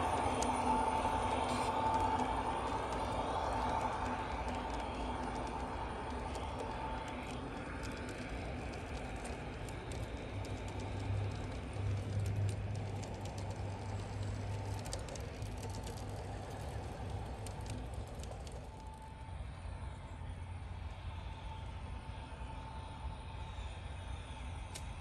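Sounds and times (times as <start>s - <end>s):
wheels clicking on rails: 0.0s - 22.5s
model train humming: 0.0s - 25.0s.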